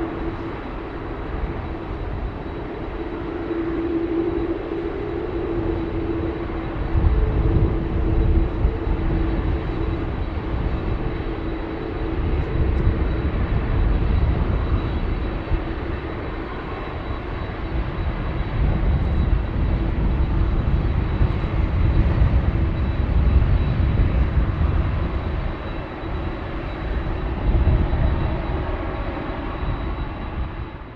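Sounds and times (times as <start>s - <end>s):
jet engine rumble with high whine: 0.0s - 30.9s.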